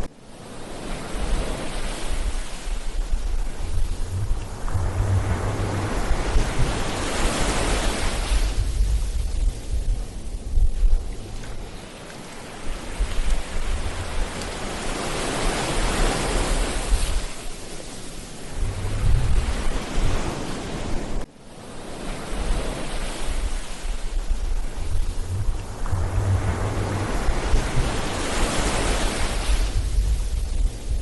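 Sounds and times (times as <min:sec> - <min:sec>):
ocean waves washing in: 0:00.0 - 0:31.0
wind buffeting microphone: 0:01.2 - 0:17.5, 0:18.3 - 0:21.2, 0:22.3 - 0:31.0.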